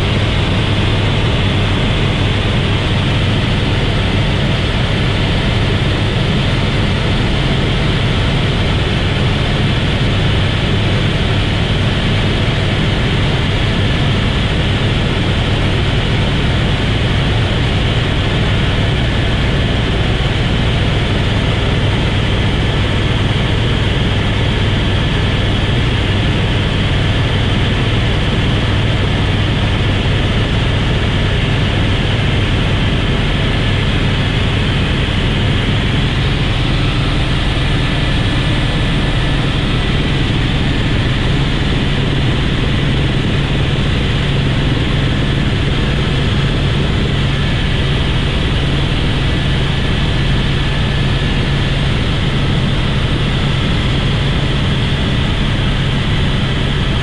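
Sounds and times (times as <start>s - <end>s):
helicopter drone from inside cabin: 0.0s - 57.0s.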